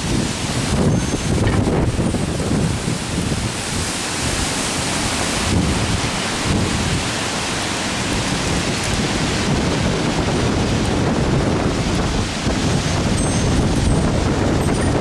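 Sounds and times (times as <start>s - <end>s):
strong wind through trees: 0.0s - 15.0s
wind buffeting microphone: 0.0s - 15.0s.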